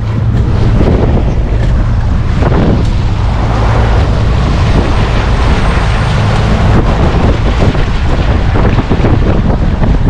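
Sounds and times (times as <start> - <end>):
outboard motor running: 0.0 - 10.0
water rushing: 0.0 - 10.0
wind buffeting microphone: 0.0 - 10.0.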